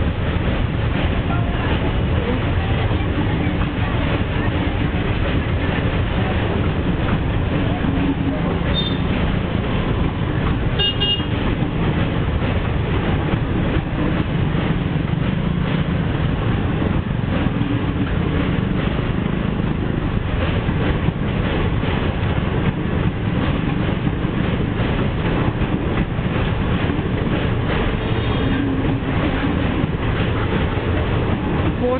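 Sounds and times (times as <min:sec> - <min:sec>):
clatter over rail joints: 0:00.0 - 0:31.9
train wheels rumbling on rails: 0:00.0 - 0:31.9.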